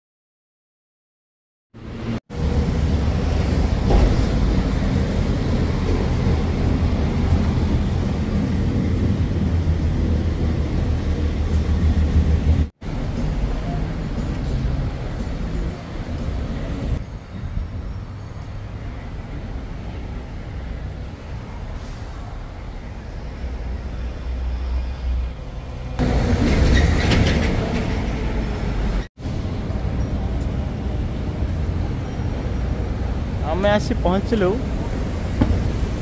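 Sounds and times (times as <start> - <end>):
street traffic rumble: 1.8 - 36.0.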